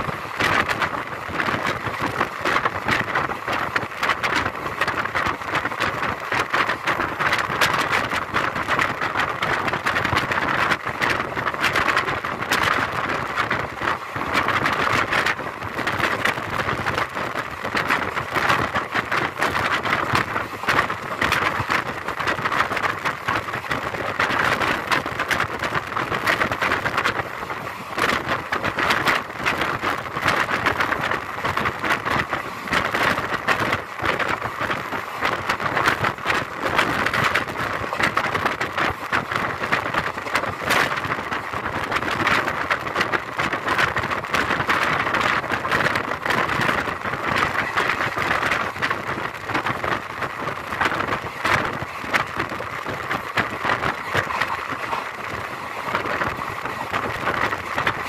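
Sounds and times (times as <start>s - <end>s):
train wheels on track: 0.0s - 58.0s
rattles and clicks: 0.3s - 58.0s.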